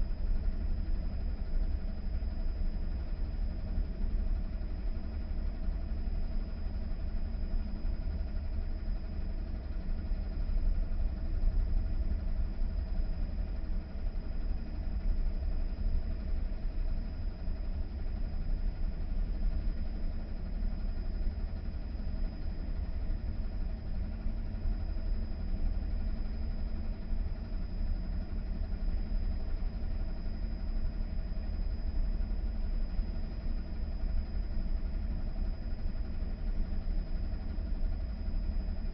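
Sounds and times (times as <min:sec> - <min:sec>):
tumble dryer hum and rumble: 0:00.0 - 0:38.9.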